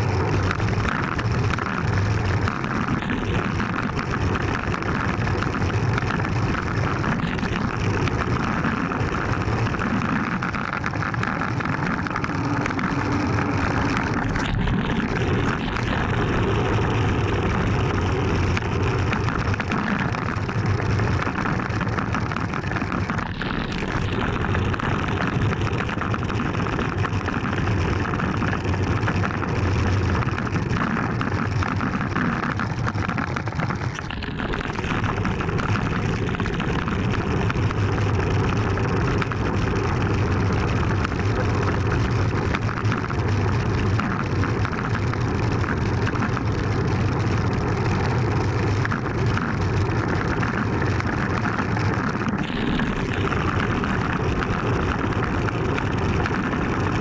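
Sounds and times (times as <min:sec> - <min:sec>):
bicycle tyre and road rumble: 0:00.0 - 0:57.0.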